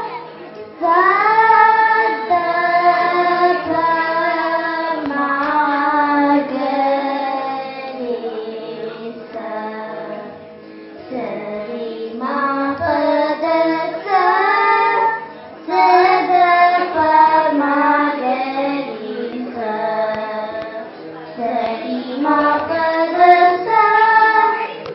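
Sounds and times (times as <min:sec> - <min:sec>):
girls singing into microphones: 0:00.0 - 0:24.9.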